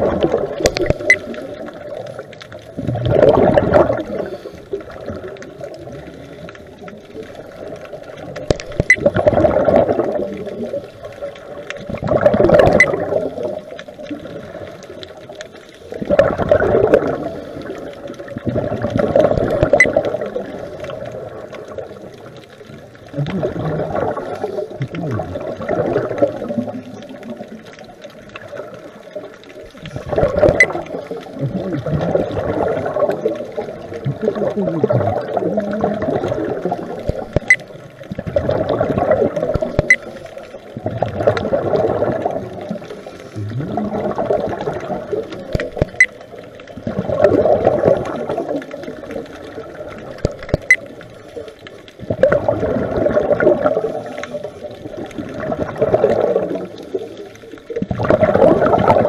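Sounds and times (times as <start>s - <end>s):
air bubbling from diver's regulator: 0.0s - 59.0s.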